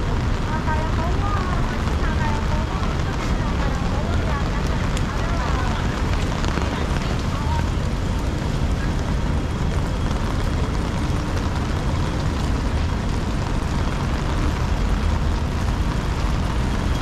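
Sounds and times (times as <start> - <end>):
rain on umbrella and street: 0.0 - 17.0
road traffic rumble: 0.0 - 17.0.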